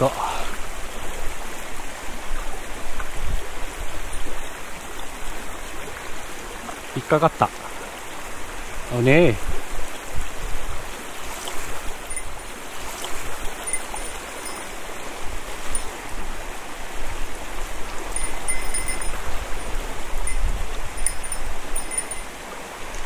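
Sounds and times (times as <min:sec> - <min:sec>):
mountain stream flowing: 0:00.0 - 0:23.0.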